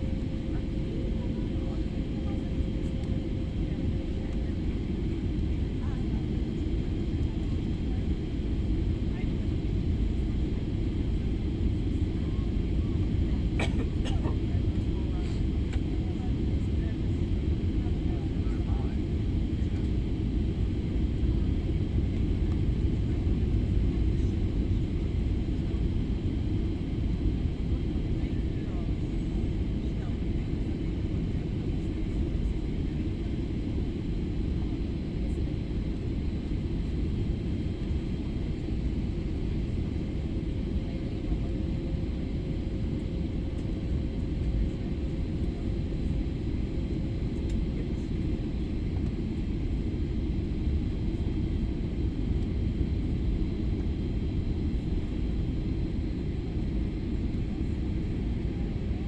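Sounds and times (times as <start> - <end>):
jet engines and airflow rumble: 0.0 - 59.0.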